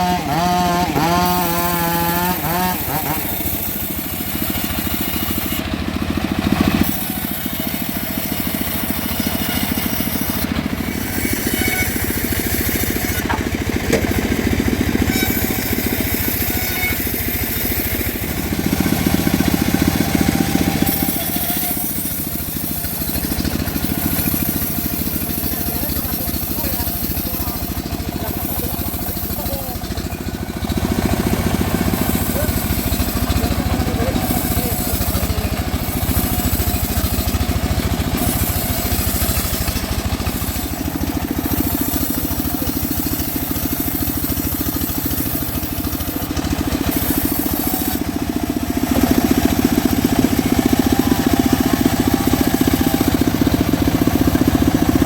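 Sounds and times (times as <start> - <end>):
engine-driven sawmill sawing: 0.0 - 55.0.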